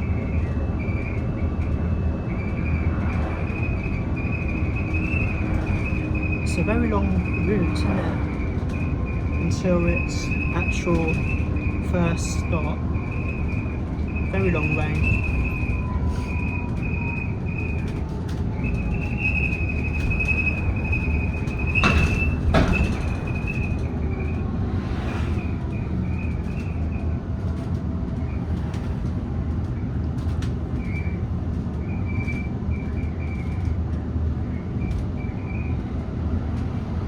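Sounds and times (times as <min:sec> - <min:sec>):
road and tyre rumble: 0:00.0 - 0:37.0
bodywork rattles and clicks: 0:00.1 - 0:24.7, 0:25.5 - 0:37.0.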